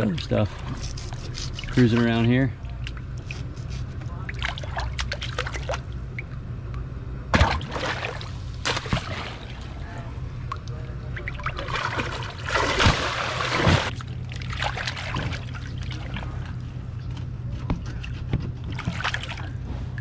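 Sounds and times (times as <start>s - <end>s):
water splashing and sloshing: 0.0s - 6.4s, 7.3s - 20.0s
steady low hum: 0.0s - 20.0s.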